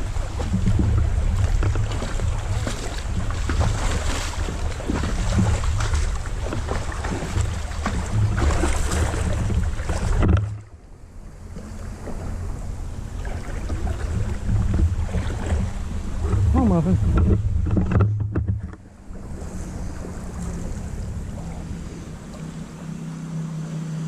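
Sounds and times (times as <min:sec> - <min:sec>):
splashes or knocks: 0:00.0 - 0:10.7, 0:13.2 - 0:22.5
wind buffeting microphone: 0:00.0 - 0:10.7, 0:11.4 - 0:23.0
creek water: 0:00.0 - 0:24.0.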